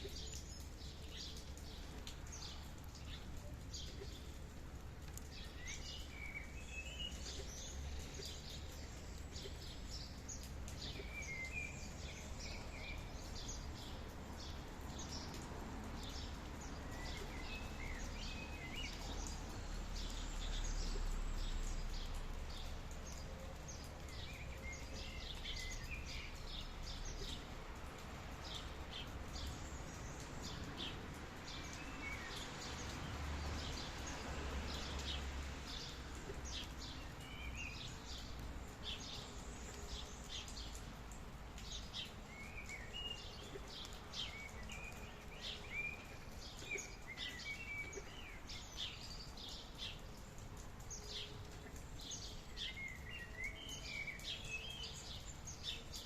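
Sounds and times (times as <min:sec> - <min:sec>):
birds chirping: 0:00.0 - 0:56.0
rain hissing: 0:00.0 - 0:56.0.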